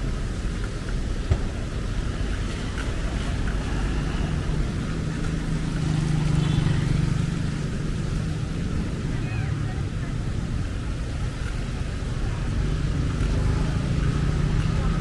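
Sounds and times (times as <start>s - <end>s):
rain: 0.0s - 15.0s
traffic noise: 0.0s - 15.0s
vehicle engine humming: 0.0s - 15.0s.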